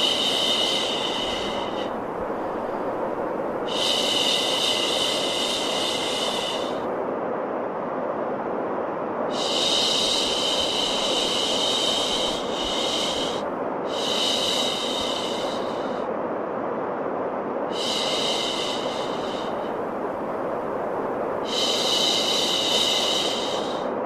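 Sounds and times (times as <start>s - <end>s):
higher sharper hiss: 0.0s - 6.9s, 9.3s - 16.0s, 17.7s - 24.0s
low rushing white noise: 0.0s - 24.0s.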